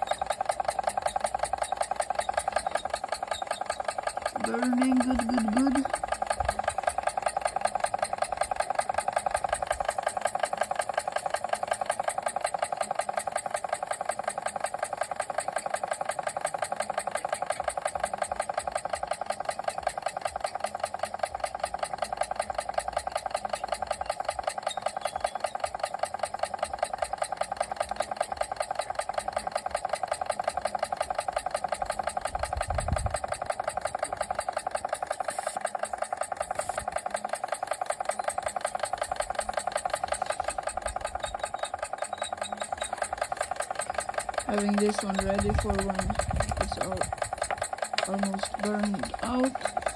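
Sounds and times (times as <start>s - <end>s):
model steam engine running: 0.0s - 49.9s.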